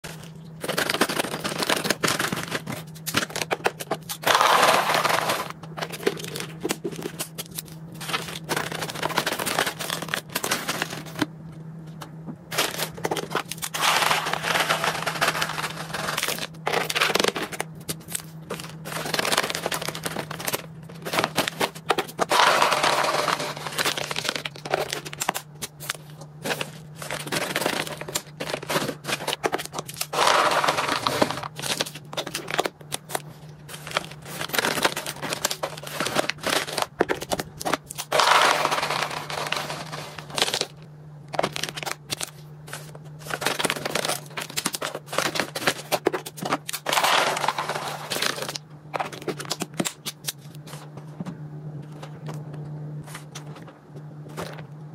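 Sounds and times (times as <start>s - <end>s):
plastic pouches crinkling: 0.0s - 11.3s, 12.5s - 50.4s
steady low hum: 0.0s - 54.9s
dry treats rattling: 0.1s - 11.2s, 12.5s - 40.8s, 41.4s - 49.5s.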